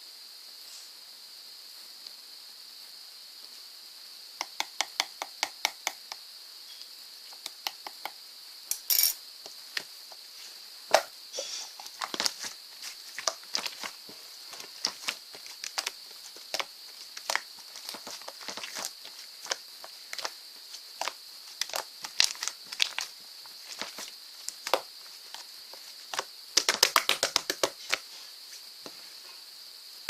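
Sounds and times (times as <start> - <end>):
faint high hiss: 0.0 - 30.0.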